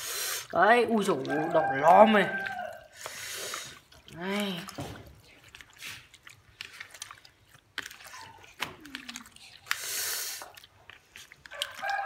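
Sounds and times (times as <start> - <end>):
meat squelching in marinade: 0.0 - 12.0.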